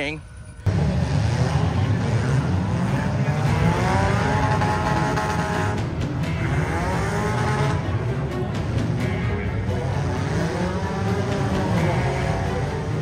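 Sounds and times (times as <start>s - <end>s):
car engine revving: 0.6s - 13.0s.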